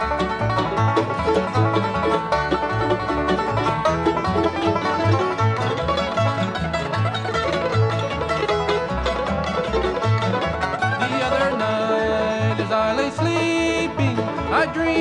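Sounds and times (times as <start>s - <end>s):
banjo picking: 0.0s - 15.0s
bass line: 0.0s - 15.0s
bluegrass band playing: 0.0s - 15.0s.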